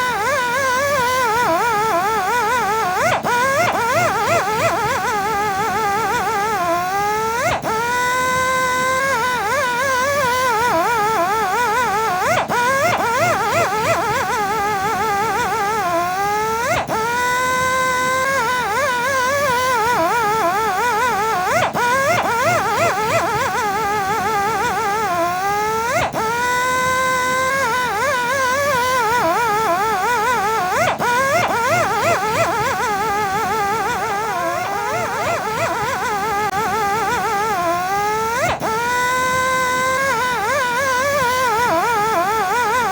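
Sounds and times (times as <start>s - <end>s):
polishing machine whining: 0.0s - 42.9s.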